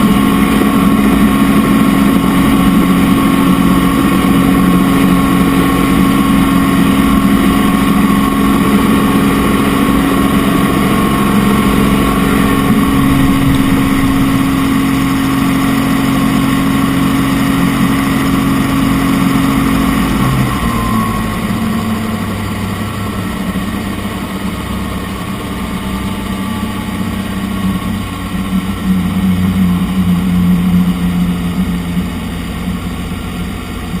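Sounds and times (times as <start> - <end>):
helicopter engine and rotor: 0.0 - 34.0.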